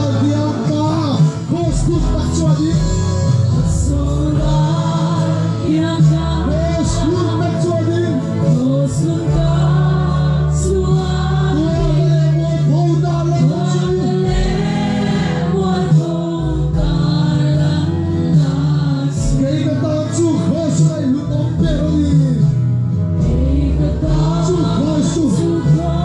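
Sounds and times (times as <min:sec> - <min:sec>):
amplified music: 0:00.0 - 0:26.0
crowd singing worship song: 0:00.0 - 0:26.0.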